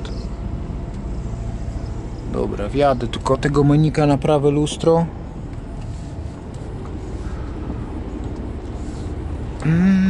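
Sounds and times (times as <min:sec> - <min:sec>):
diesel truck engine running: 0:00.0 - 0:10.0.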